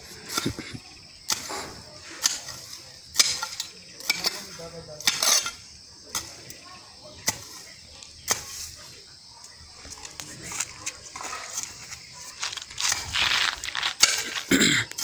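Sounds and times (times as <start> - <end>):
hand hoe chopping soil: 0.1 - 6.4, 7.2 - 8.8, 10.5 - 15.0.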